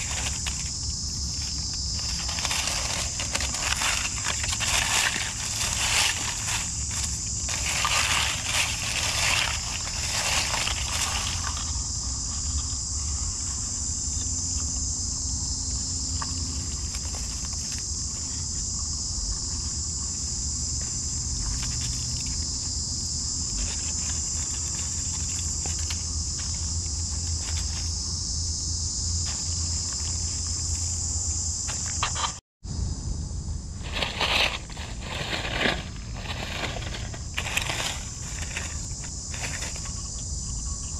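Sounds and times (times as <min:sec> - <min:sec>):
dry leaves crackling: 0:00.0 - 0:31.4, 0:33.7 - 0:40.6
high-pitched insect drone: 0:00.0 - 0:40.9.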